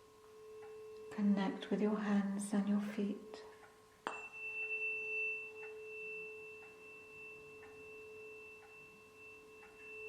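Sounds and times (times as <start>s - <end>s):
tuning fork ringing: 0.0s - 10.0s.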